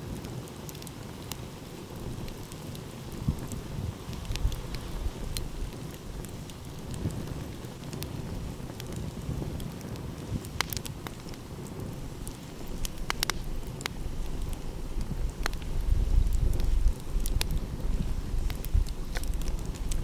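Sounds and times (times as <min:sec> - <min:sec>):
wind: 0:00.0 - 0:20.0
wood fire crackling: 0:00.0 - 0:20.0.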